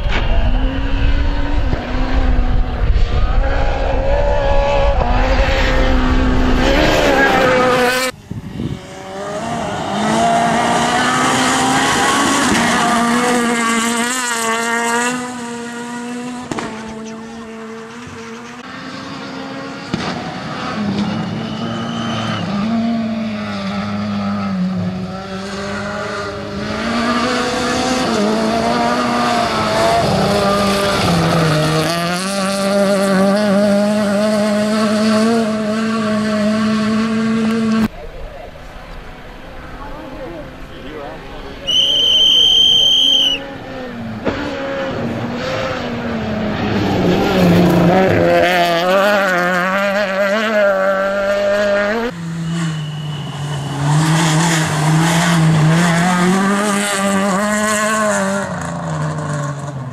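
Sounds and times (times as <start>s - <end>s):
rally car engine revving: 0.0s - 37.9s, 38.6s - 59.9s.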